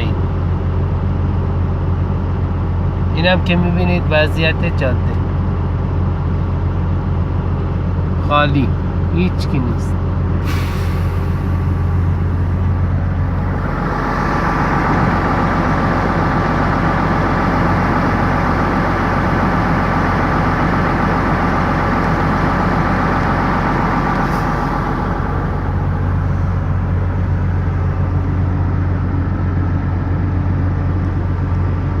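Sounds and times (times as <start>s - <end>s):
road and wind noise: 0.0s - 32.0s
vehicle engine drone: 0.0s - 32.0s.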